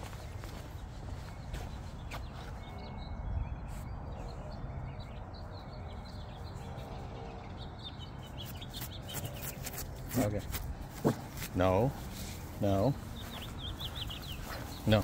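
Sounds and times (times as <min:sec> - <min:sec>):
bird chirps: 0:00.0 - 0:11.2, 0:12.0 - 0:15.0.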